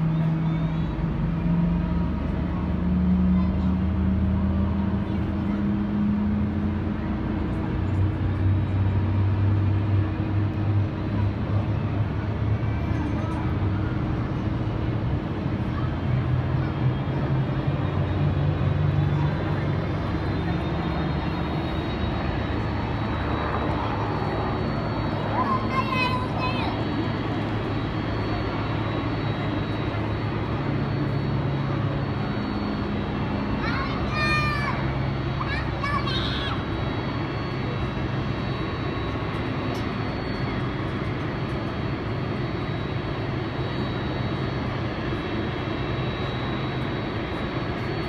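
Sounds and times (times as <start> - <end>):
jet airliner engine drone: 0.0 - 48.0
faint high whine: 6.6 - 48.0.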